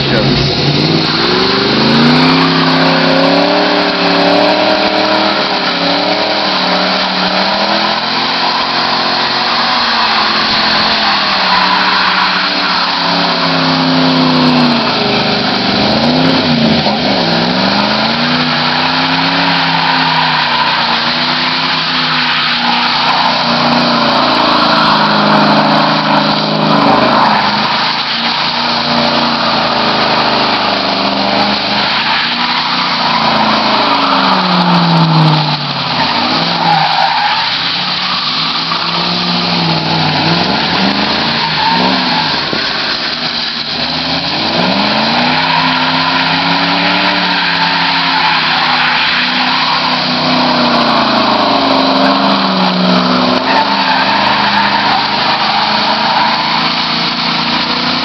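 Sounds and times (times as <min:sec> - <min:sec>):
car engine revving: 0:00.0 - 0:58.0
tyres squealing on asphalt: 0:00.0 - 0:58.0.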